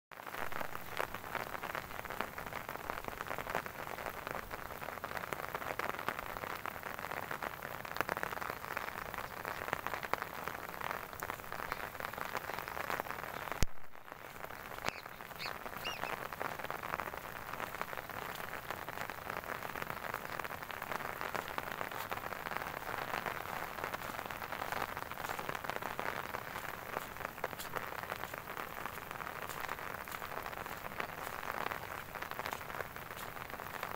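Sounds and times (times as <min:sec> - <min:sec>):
rain pattering on grass and puddles: 0:00.1 - 0:33.9.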